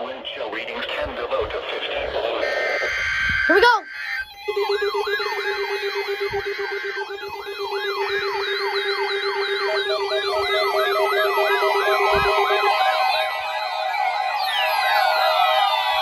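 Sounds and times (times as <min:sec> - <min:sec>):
electronic beeping tone: 0:02.4 - 0:16.0
falling siren whoop: 0:02.4 - 0:16.0
steady low alarm tone: 0:02.4 - 0:16.0.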